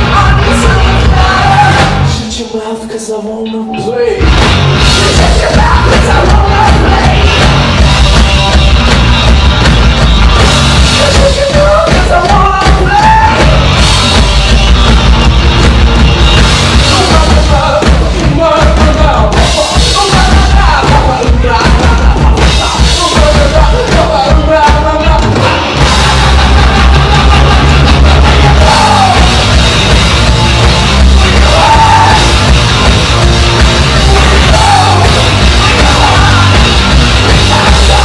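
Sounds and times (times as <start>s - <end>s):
drum kit: 0.0s - 2.2s, 4.1s - 38.0s
distorted electric guitars: 0.0s - 2.4s, 3.3s - 38.0s
person singing: 0.0s - 8.0s, 10.8s - 14.3s, 16.8s - 29.6s, 31.1s - 32.6s, 33.2s - 38.0s.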